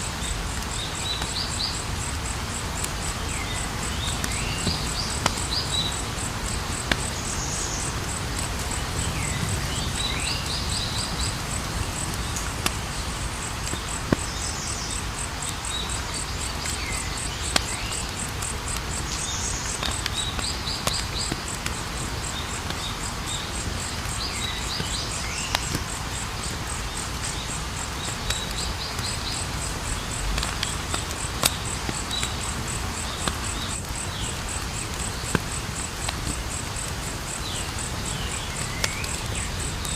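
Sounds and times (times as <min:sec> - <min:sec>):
campfire hissing and crackling: 0:00.0 - 0:39.9
insects trilling: 0:00.0 - 0:39.9.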